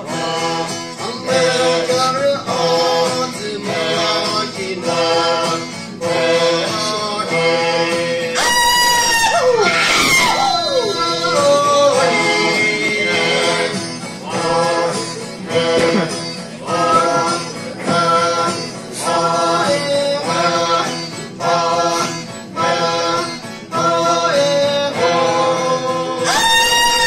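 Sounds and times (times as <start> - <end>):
acoustic guitar: 0.0 - 27.0
group of people singing: 0.0 - 27.0.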